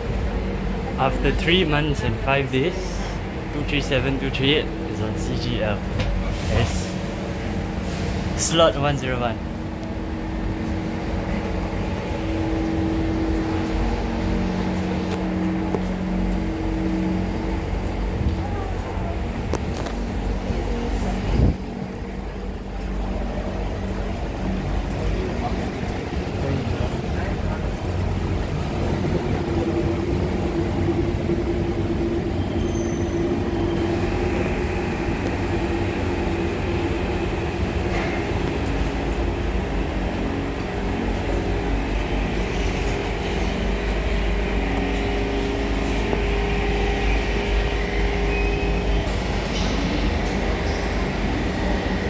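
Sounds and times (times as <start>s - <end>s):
train equipment hum: 0.0s - 52.0s
train running gear rumble: 0.0s - 52.0s.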